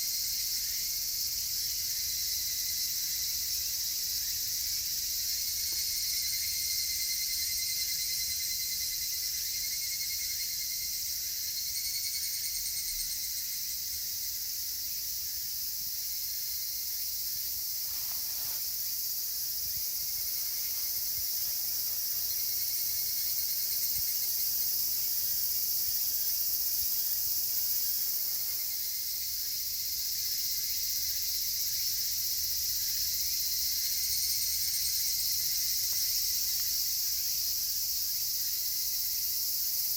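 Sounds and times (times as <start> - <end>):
cicadas shrilling: 0.0 - 39.9
pulsing cicada call: 0.0 - 39.9.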